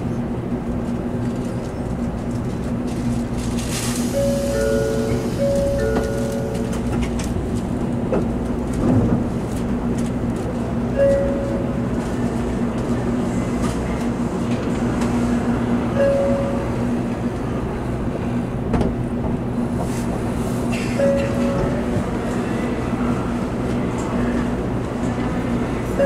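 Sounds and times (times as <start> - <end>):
train cabin rumble: 0.0 - 26.0.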